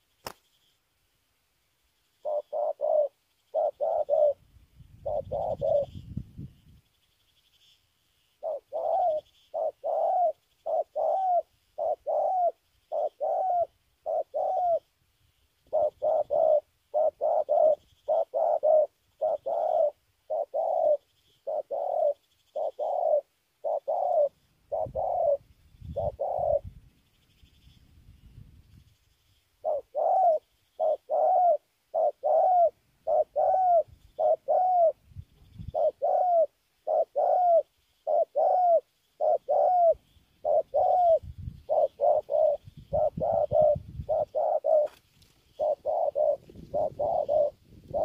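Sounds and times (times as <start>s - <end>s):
dove cooing: 2.2s - 6.2s, 8.4s - 15.0s, 15.6s - 26.8s, 29.6s - 48.0s.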